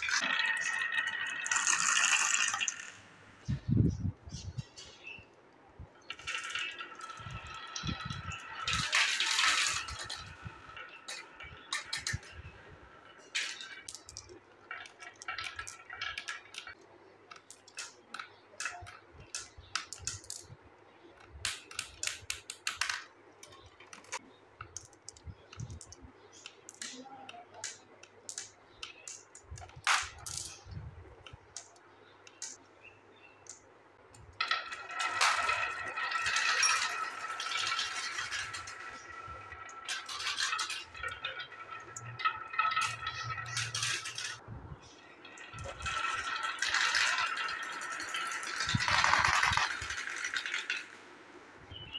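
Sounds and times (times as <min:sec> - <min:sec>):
marbles clicking together: 0:00.0 - 0:03.1, 0:06.0 - 0:20.6, 0:21.2 - 0:32.6, 0:33.4 - 0:44.4, 0:45.0 - 0:51.0
marbles rolling on wooden track: 0:00.0 - 0:04.8, 0:06.0 - 0:32.6, 0:33.4 - 0:51.3.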